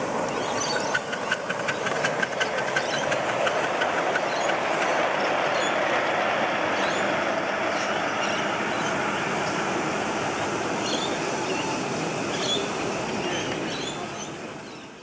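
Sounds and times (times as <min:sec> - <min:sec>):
wagons rolling on rails: 0:00.0 - 0:14.2
steam locomotive chuffing: 0:00.0 - 0:14.9.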